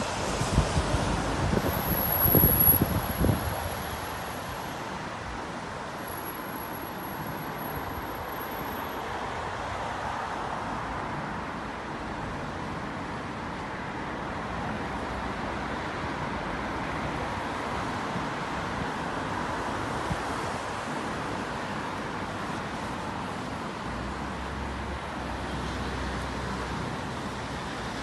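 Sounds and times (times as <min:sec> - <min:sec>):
car engines: 0:00.0 - 0:28.0
tyres on wet road: 0:00.0 - 0:28.0.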